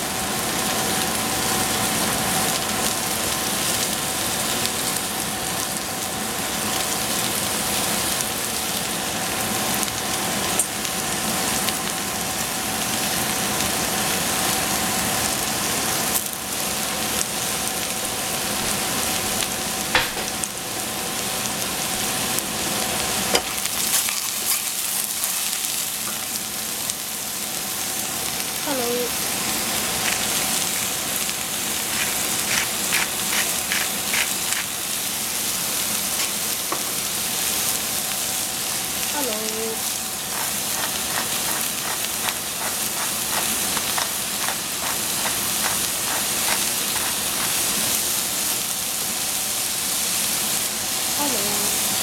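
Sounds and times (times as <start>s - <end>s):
mushrooms sizzling in a pan: 0.0s - 52.0s.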